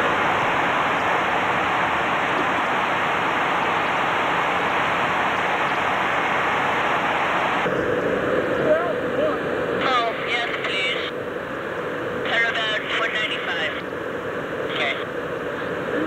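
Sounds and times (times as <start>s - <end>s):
jet engine and air rushing: 0.0s - 15.9s.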